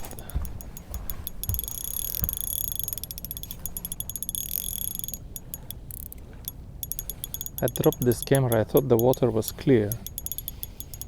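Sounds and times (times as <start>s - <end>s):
fishing reel ticking: 0.0s - 11.0s
high whine of reel gears: 0.0s - 11.0s.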